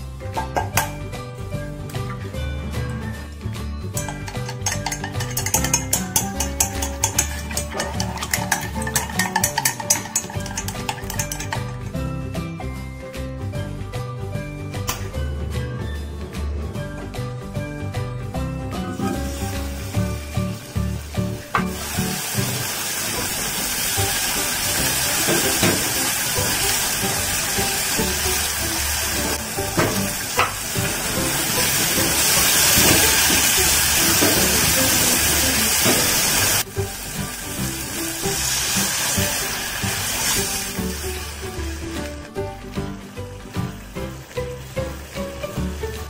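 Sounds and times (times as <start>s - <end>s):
background music: 0.0s - 46.0s
vegetables sizzling in a pot: 3.9s - 13.2s, 17.8s - 46.0s.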